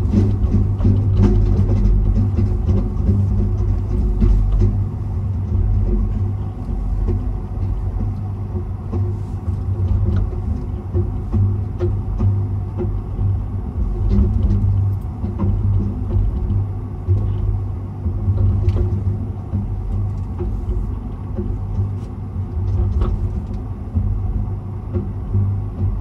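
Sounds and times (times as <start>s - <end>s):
faint hum: 0.0s - 26.0s
low rumble of running gear: 0.0s - 26.0s.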